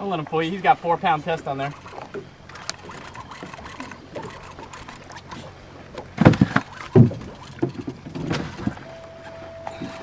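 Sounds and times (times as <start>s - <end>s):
boat background rumble: 0.0s - 10.0s
low thumps on a boat: 1.3s - 10.0s.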